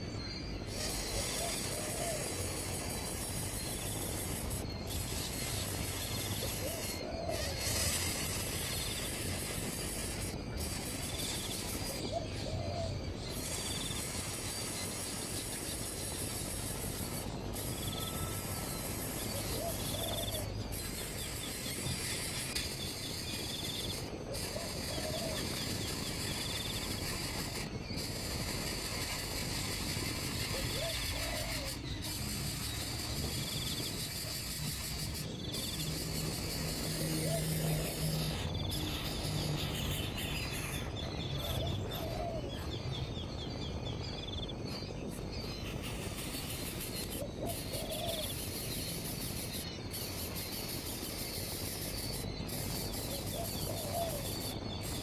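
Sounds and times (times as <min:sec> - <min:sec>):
faint short chirping calls: 0:00.0 - 0:55.0
outdoor noise: 0:00.0 - 0:55.0.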